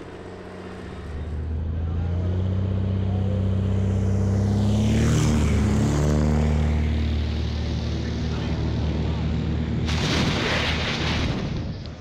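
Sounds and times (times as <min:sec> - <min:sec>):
propeller plane flying overhead: 0:00.0 - 0:10.8.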